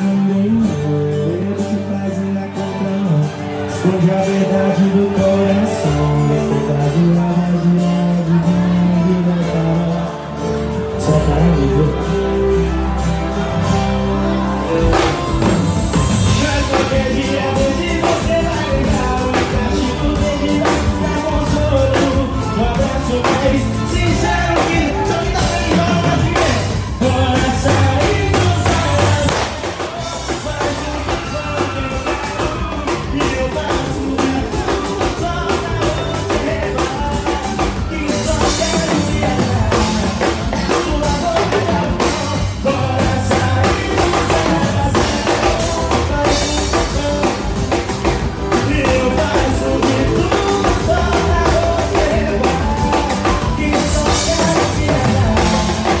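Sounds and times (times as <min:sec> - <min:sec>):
drum kit beat: 0:00.0 - 0:56.0
live band music: 0:00.0 - 0:56.0
man singing: 0:00.0 - 0:56.0.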